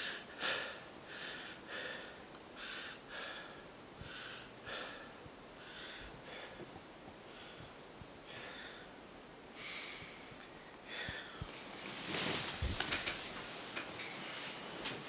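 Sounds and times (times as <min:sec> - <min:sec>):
man breathing heavily: 0:00.0 - 0:12.4.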